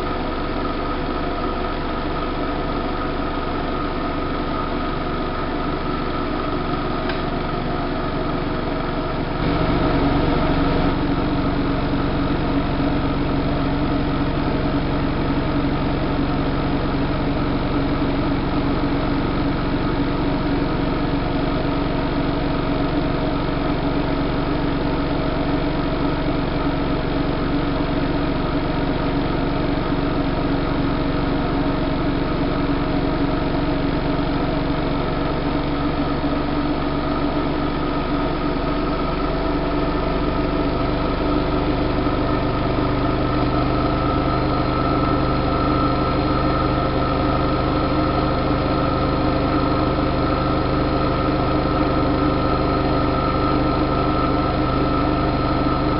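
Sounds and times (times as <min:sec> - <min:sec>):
washing machine spinning: 0:00.1 - 0:55.9.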